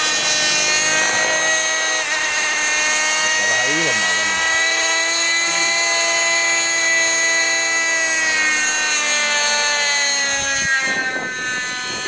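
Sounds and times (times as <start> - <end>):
model helicopter engine whining: 0.0 - 12.0.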